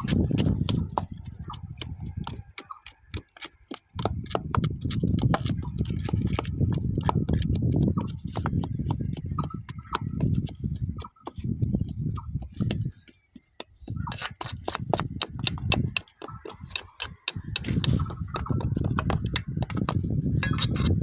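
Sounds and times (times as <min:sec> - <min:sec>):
sharp irregular clicks and taps: 0:00.0 - 0:20.9.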